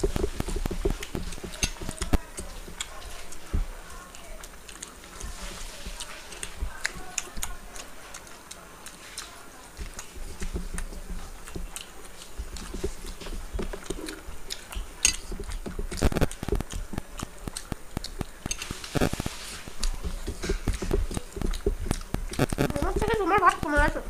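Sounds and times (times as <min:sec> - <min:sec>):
chewing and mouth sounds: 0:00.0 - 0:24.0
fingers scraping food on plates: 0:00.0 - 0:24.0.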